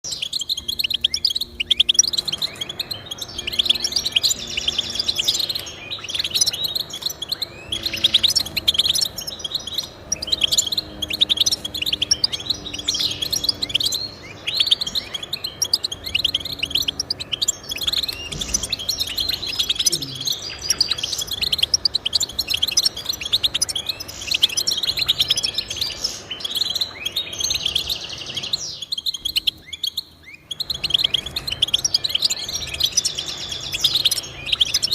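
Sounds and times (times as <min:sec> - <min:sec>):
finch twittering song: 0:00.0 - 0:34.9.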